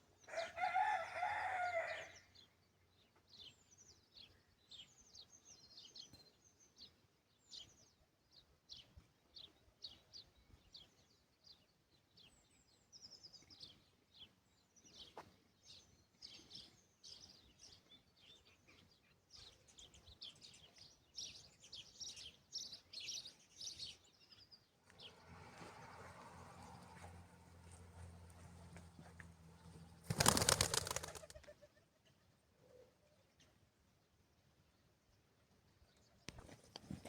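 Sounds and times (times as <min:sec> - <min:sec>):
small birds chirping: 0:02.2 - 0:37.0.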